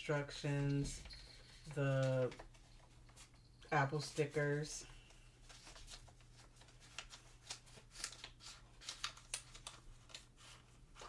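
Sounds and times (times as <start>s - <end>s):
paper and cardboard rustling: 0.7s - 11.0s.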